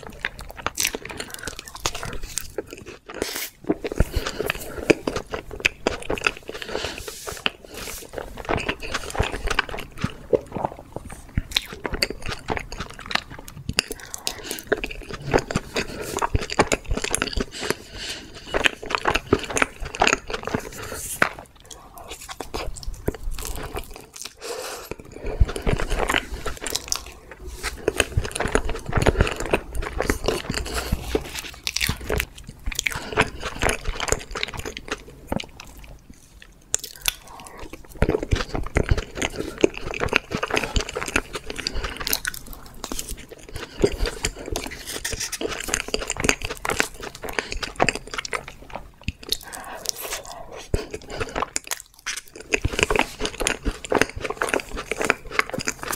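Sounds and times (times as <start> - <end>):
wet chewing mouth clicks: 0.0 - 55.9.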